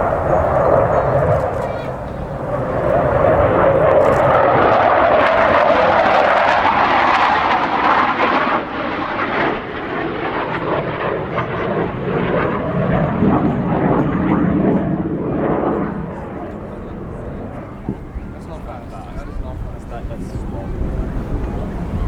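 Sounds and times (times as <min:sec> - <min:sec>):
jet roar passing: 0:00.0 - 0:22.0.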